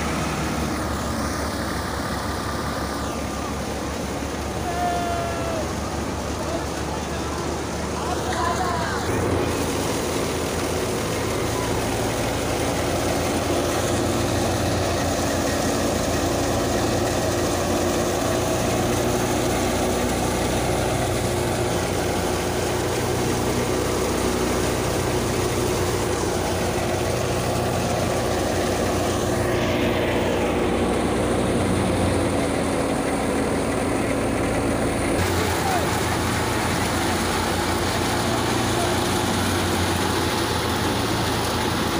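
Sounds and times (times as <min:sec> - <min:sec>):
tractor diesel engine: 0:00.0 - 0:41.9
wheat thresher running: 0:00.0 - 0:41.9.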